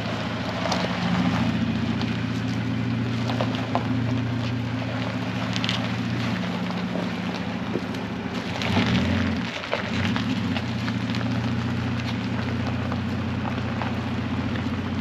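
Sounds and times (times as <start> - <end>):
engine idling low rumble: 0.0 - 15.0.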